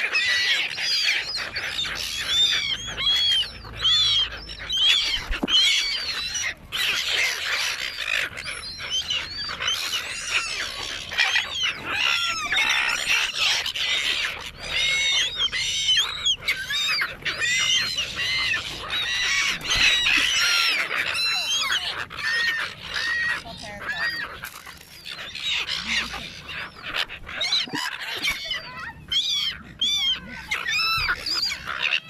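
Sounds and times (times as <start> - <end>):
seagulls squealing calls: 0.0 - 32.0.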